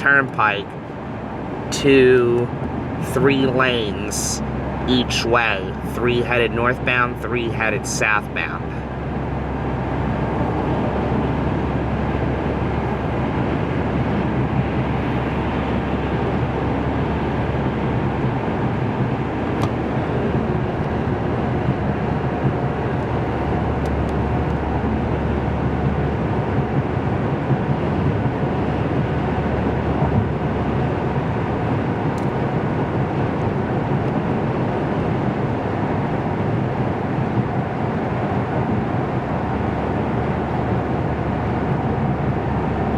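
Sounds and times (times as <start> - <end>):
car road noise inside cabin: 0.0 - 42.9.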